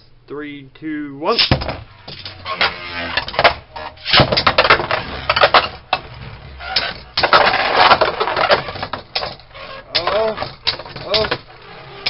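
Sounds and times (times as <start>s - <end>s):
spinning tops clattering: 1.4s - 12.0s.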